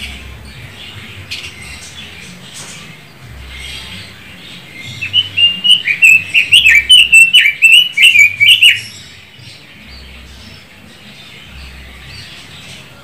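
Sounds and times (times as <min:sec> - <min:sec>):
bird warbling song: 0:00.0 - 0:13.0.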